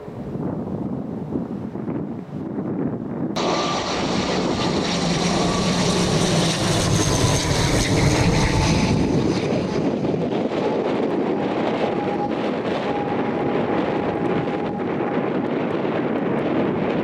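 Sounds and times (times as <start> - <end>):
plane engines passing: 3.3 - 17.0.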